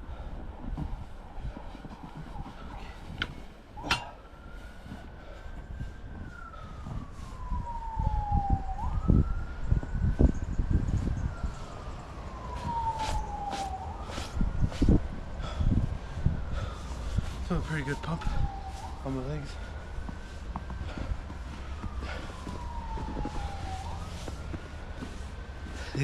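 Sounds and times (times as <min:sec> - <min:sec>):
siren wailing: 0:00.0 - 0:26.0.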